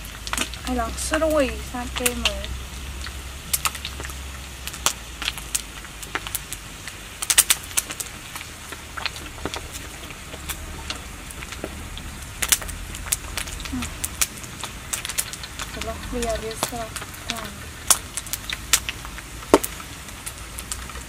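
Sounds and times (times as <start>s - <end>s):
meat frying in a wok: 0.0s - 21.0s.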